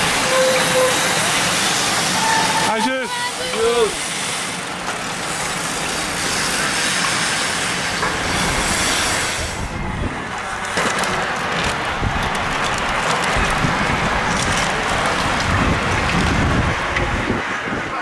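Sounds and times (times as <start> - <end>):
bicycle tyres rushing on tarmac: 0.0 - 18.0
wind: 0.0 - 18.0.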